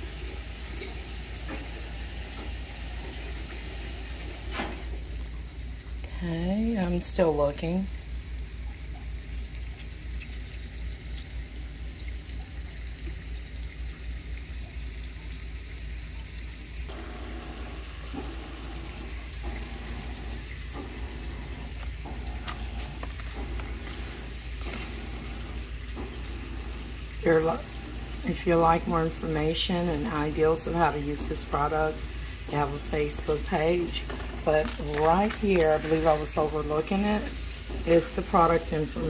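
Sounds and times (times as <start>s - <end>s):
sausages sizzling in water: 0.0s - 39.0s.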